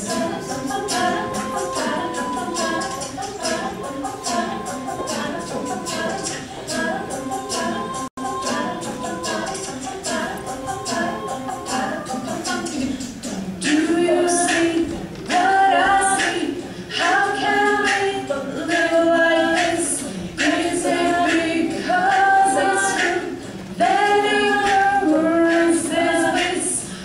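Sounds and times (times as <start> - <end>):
female a cappella group singing: 0.0 - 27.0.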